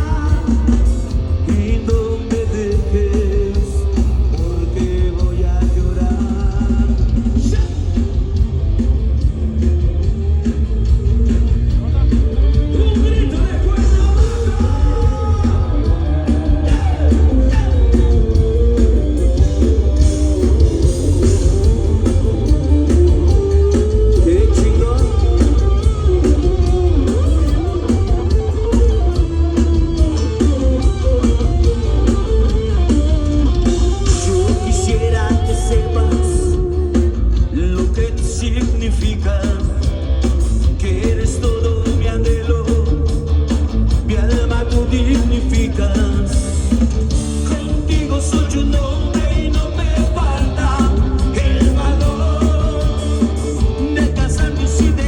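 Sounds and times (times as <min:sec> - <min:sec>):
electric guitar: 0:00.0 - 0:55.0
heavy bass: 0:00.0 - 0:55.0
rock band playing loud: 0:00.0 - 0:55.0
steady drum beat: 0:00.0 - 0:55.0.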